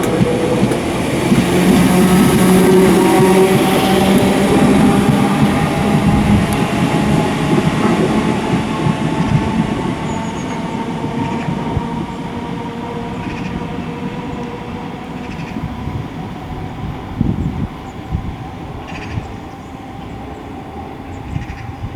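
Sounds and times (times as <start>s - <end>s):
electric train motor whine: 0.0s - 18.8s
train wheel rumble: 0.0s - 21.9s.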